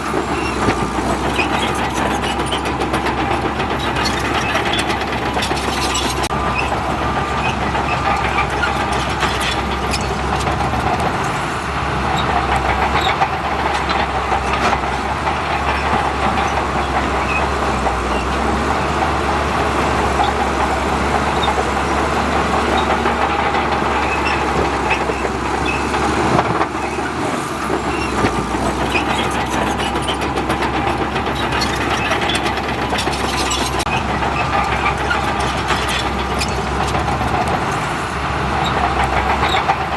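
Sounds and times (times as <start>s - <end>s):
clanks and rattles: 0.0s - 39.9s
heavy diesel machinery under load: 0.0s - 39.9s.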